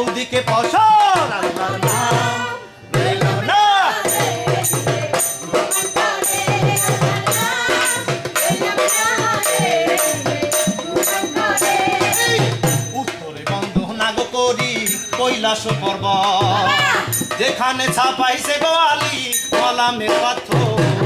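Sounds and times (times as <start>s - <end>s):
person singing folk song: 0.0s - 21.0s
tabla strokes: 0.0s - 21.0s.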